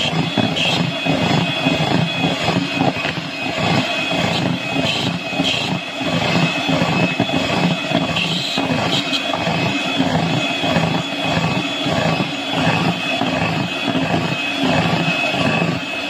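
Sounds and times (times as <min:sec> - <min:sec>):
electric hand mixer whipping batter: 0:00.0 - 0:16.0.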